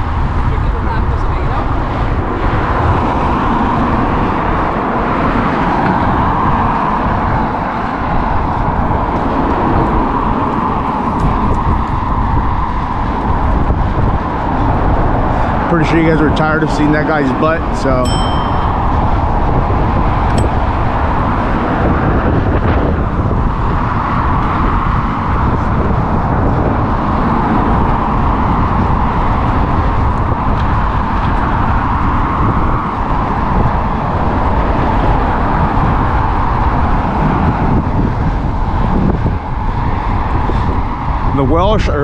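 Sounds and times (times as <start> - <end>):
bicycle road noise: 0.0 - 42.0
cars passing: 0.0 - 42.0
rushing wind: 0.0 - 42.0.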